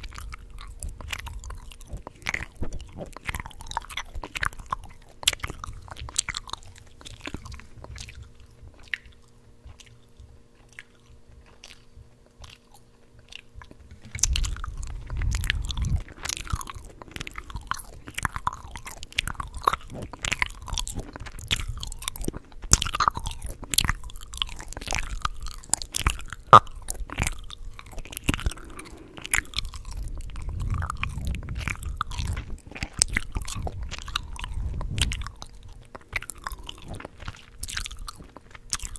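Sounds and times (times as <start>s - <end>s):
gum chewing clicks and smacks: 0.0s - 38.9s.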